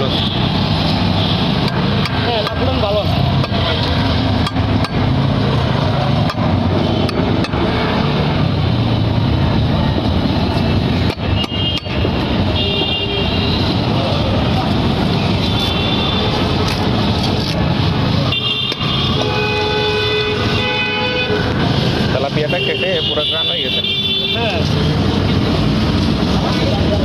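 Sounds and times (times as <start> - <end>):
busy road traffic roar: 0.0 - 27.0.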